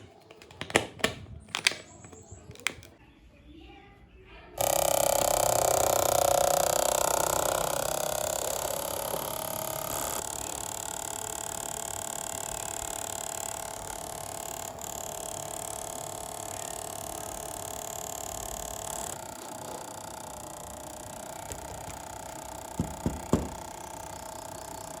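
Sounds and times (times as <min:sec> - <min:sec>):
sharp clicks: 0:00.0 - 0:03.0, 0:04.6 - 0:25.0
small fan motor whining: 0:04.6 - 0:25.0.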